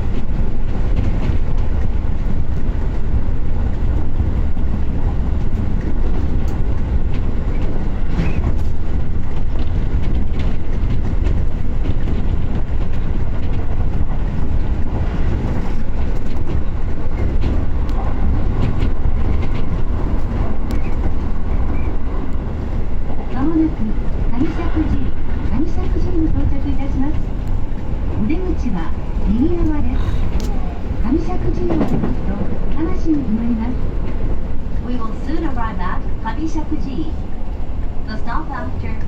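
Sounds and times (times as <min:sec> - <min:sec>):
train rumbling: 0:00.0 - 0:39.0
faint rail clicks: 0:00.1 - 0:35.6.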